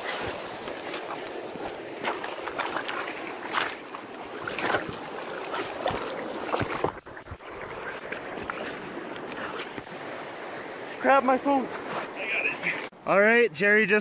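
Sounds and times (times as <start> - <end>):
fast river water rushing: 0.0 - 13.0.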